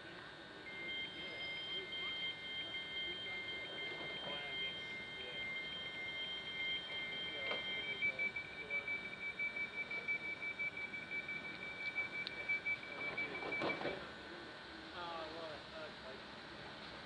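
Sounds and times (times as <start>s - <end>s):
faint voices: 0.0s - 17.0s.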